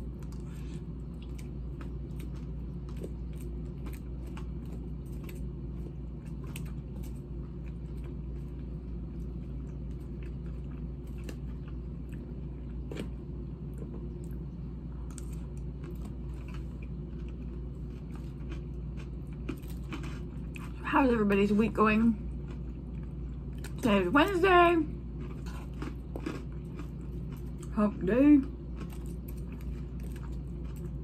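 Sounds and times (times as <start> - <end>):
air conditioning hum: 0.0 - 31.0
chewing and crunching lettuce: 0.0 - 31.0.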